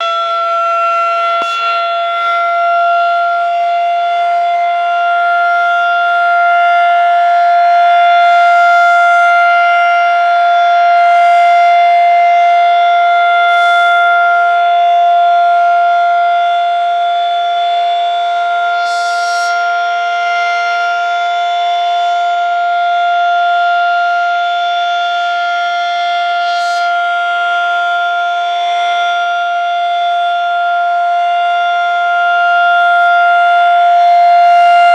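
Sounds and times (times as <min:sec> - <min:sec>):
rotating siren steady tone: 0:00.0 - 0:34.9.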